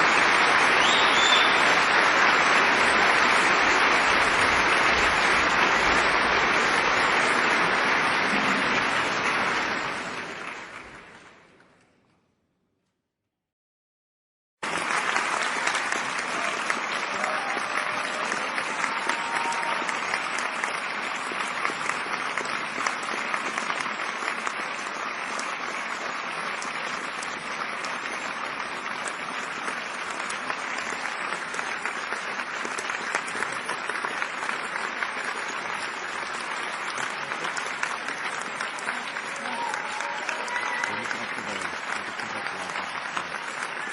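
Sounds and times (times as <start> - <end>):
large audience applauding: 0.0 - 11.8, 14.6 - 43.9.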